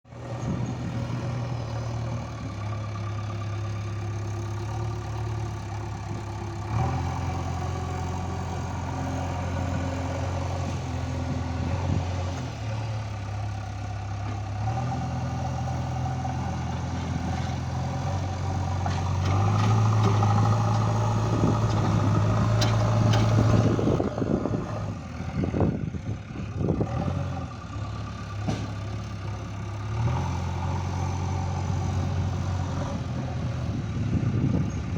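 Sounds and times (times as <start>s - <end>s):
diesel engine revving: 0.1s - 34.9s.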